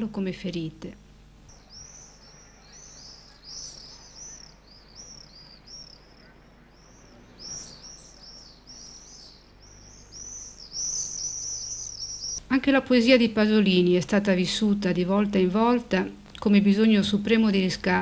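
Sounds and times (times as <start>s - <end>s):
faint low hum: 0.0s - 18.0s
small birds chirping: 0.0s - 18.0s.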